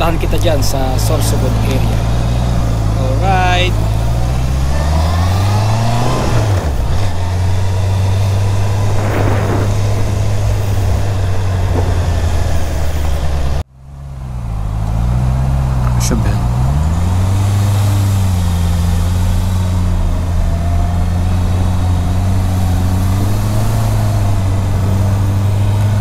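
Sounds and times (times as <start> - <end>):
motorcycle engine pulling away: 0.0 - 26.0.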